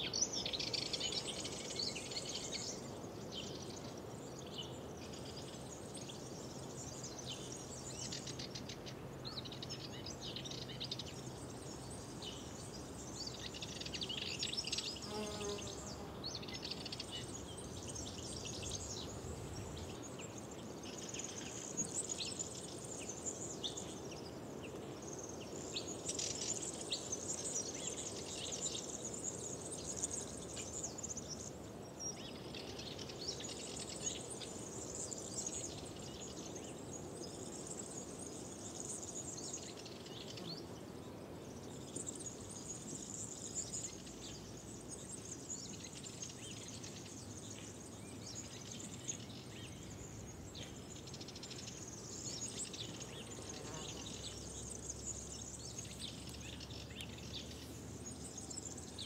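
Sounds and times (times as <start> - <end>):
faint steady hiss: 0.0 - 59.0
songbirds singing and chirping: 0.0 - 59.0.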